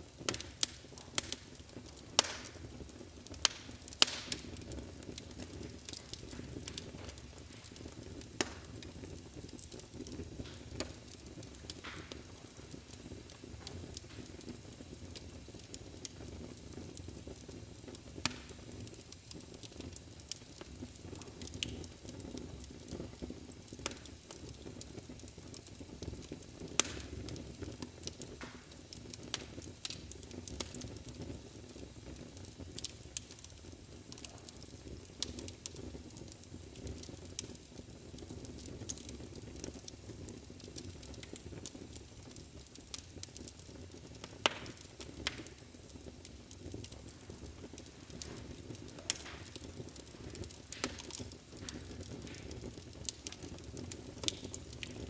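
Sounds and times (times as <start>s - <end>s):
fire crackling and popping: 0.0s - 55.0s
fire rumbling and hissing: 0.0s - 55.0s.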